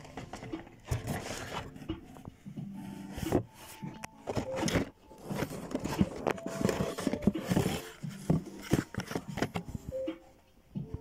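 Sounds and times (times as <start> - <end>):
rustling plastic and card packaging: 0.0 - 10.0.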